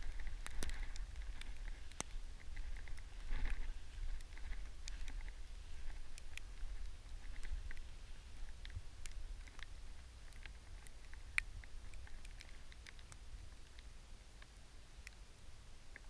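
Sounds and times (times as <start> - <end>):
light irregular ticking and patter: 0.0 - 16.0.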